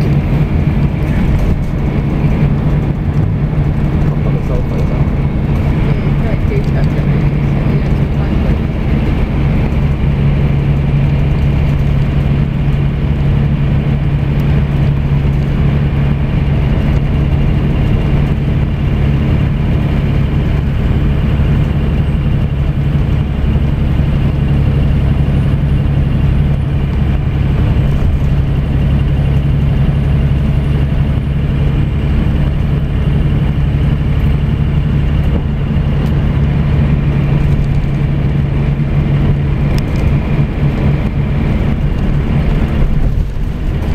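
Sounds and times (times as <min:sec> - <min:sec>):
coach engine drone: 0:00.0 - 0:43.9
road rumble: 0:00.0 - 0:43.9.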